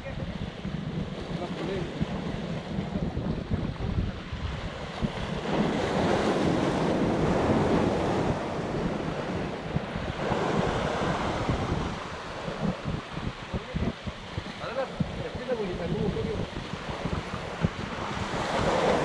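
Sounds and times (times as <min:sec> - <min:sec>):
waves breaking on rocks: 0:00.0 - 0:19.0
wind buffeting microphone: 0:00.0 - 0:19.0.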